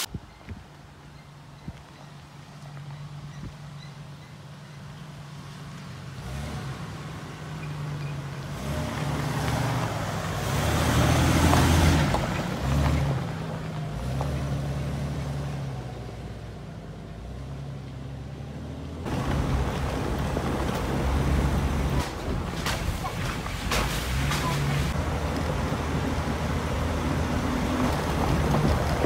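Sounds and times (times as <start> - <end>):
tyre and road noise: 0.0 - 29.0
car engine hum passing: 2.1 - 29.0.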